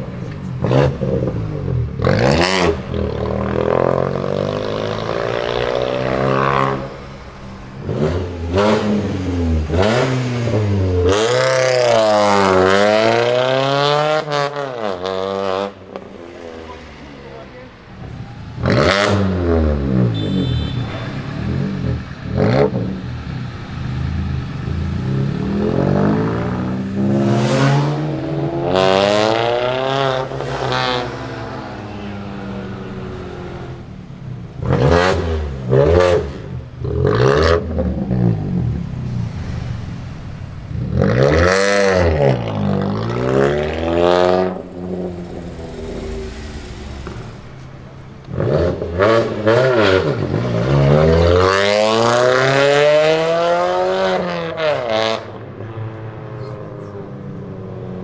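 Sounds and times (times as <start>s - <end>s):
car exhaust revving: 0.0s - 16.7s, 18.5s - 55.4s.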